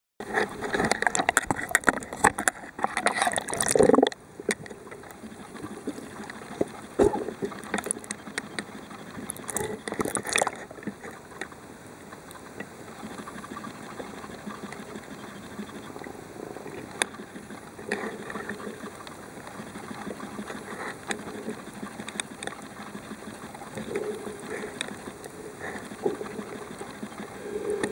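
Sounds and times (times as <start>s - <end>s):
underwater crackling and splashing: 0.2s - 27.9s.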